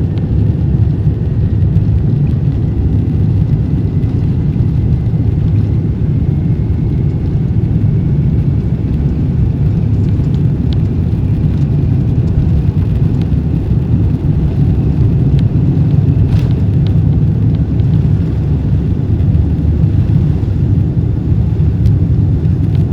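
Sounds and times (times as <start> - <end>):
jet airliner cabin roar: 0.0 - 22.9.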